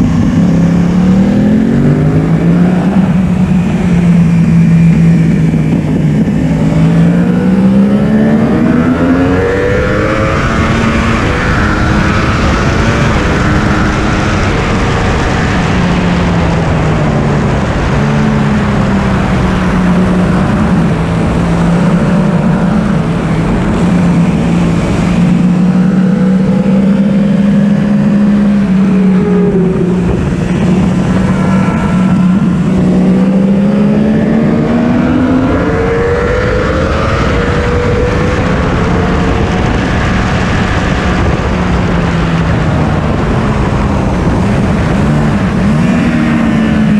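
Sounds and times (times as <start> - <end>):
motorcycle engine running: 0.0 - 46.9
wind rush: 0.0 - 46.9.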